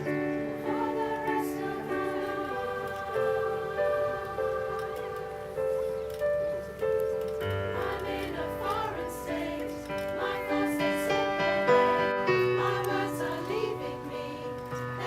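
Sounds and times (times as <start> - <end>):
choir singing: 0.0 - 6.0, 7.4 - 15.0.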